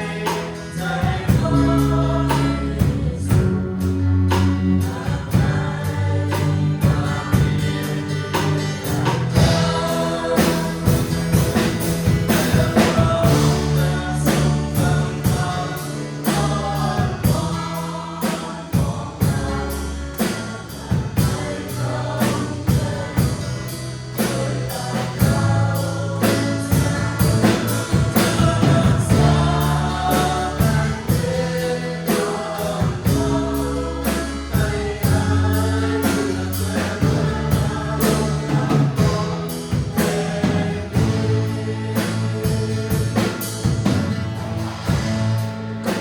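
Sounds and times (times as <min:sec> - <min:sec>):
band with bass and drums: 0:00.0 - 0:46.0
group singing worship song: 0:00.0 - 0:46.0.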